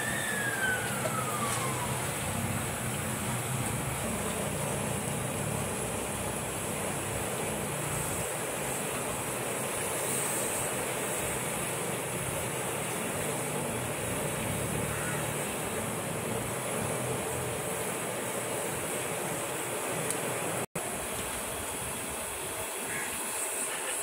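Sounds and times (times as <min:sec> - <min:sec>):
fritters sizzling in hot oil: 0:00.0 - 0:19.4, 0:20.0 - 0:24.0.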